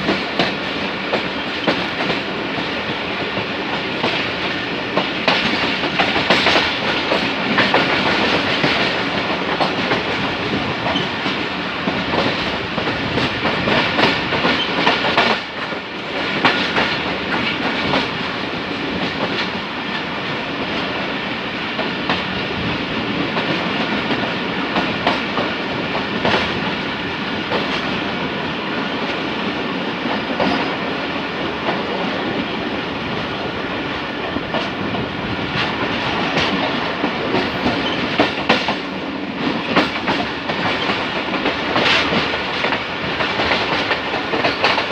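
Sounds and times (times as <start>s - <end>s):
train wheels clattering over rail joints: 0.0s - 28.1s, 28.7s - 32.6s, 33.2s - 44.9s.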